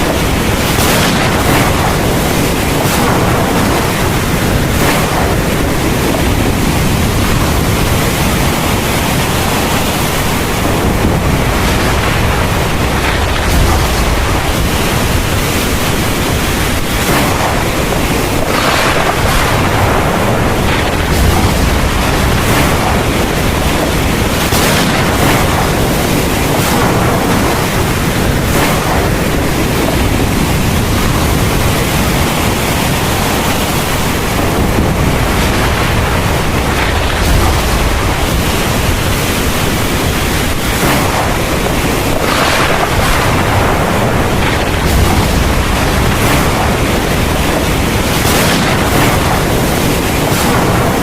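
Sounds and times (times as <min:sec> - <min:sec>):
heavy rain falling: 0:00.0 - 0:51.0
thunder rumbling: 0:00.0 - 0:51.0.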